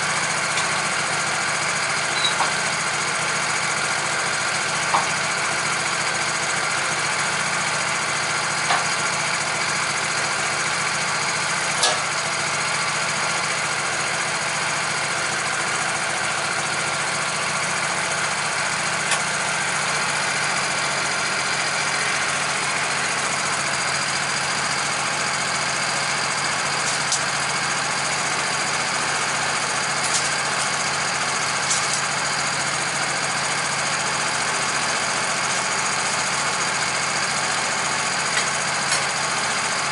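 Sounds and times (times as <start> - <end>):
machine motor humming: 0.0 - 39.9.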